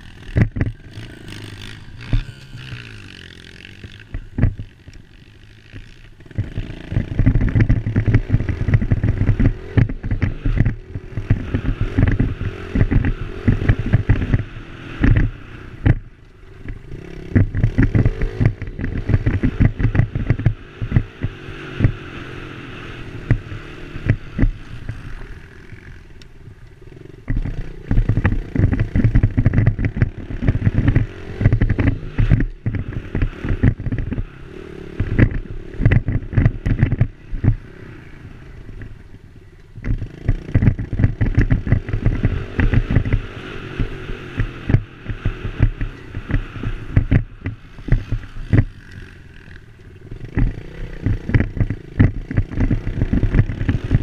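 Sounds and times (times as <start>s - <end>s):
dirt bike engine revving: 0.0s - 39.1s, 39.8s - 54.0s.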